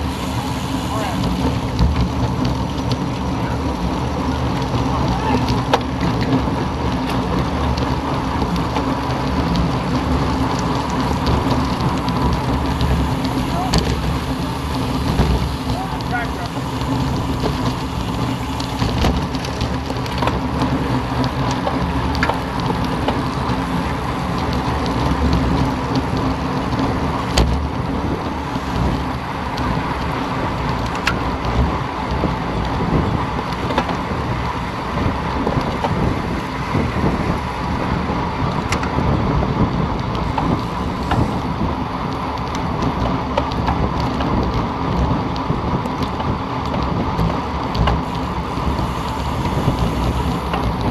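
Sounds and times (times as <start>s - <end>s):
bicycle tyre road noise: 0.0s - 50.9s
wind rushing over microphone: 0.0s - 50.9s.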